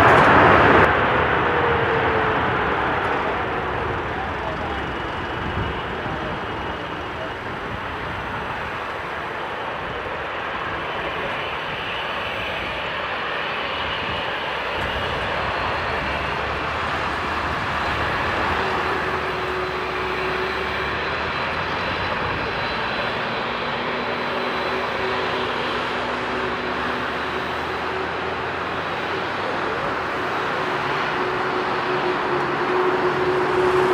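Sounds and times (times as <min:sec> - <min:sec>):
faint high whine: 0:00.0 - 0:33.9
jet engines rushing: 0:00.0 - 0:33.9.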